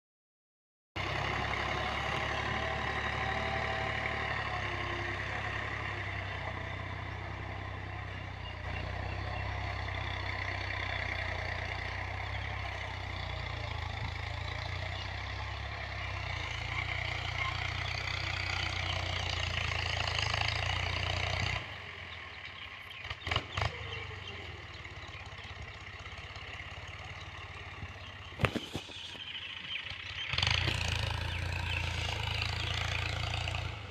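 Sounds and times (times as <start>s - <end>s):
tractor diesel engine running: 1.0s - 33.9s.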